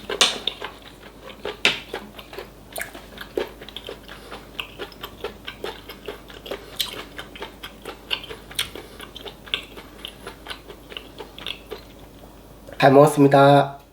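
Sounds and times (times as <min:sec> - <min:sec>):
person chewing food: 0:00.0 - 0:12.8.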